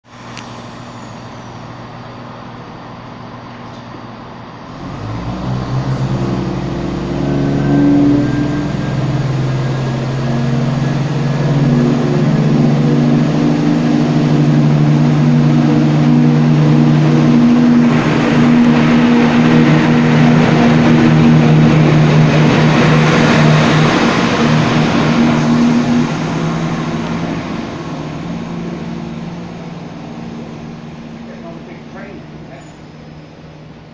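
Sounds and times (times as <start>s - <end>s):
diesel train engine: 0.0s - 33.9s
rushing rumble: 0.0s - 33.9s.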